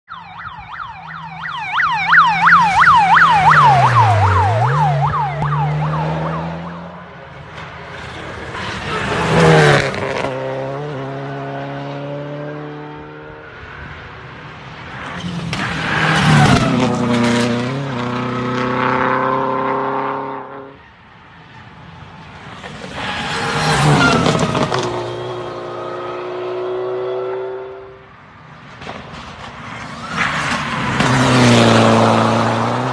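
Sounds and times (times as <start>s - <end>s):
rally cars passing at speed: 0.5s - 32.9s.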